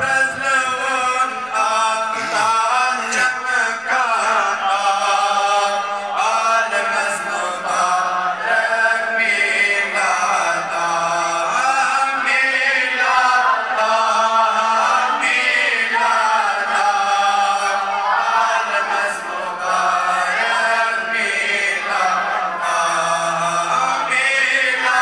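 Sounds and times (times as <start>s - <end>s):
men chanting devotional poem: 0.0s - 25.0s.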